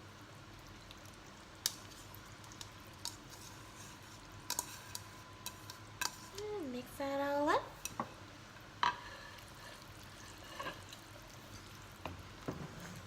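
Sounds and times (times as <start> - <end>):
soup simmering hiss: 0.0 - 13.0.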